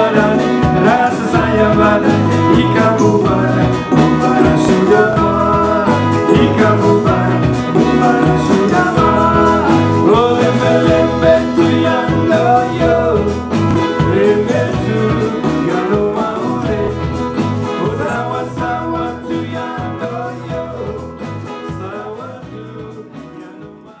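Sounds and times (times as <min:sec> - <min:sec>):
music with guitar: 0:00.0 - 0:24.0.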